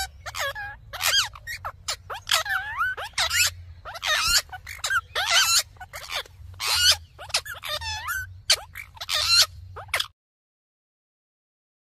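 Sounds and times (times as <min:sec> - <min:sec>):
parakeets squawking: 0:00.0 - 0:10.2.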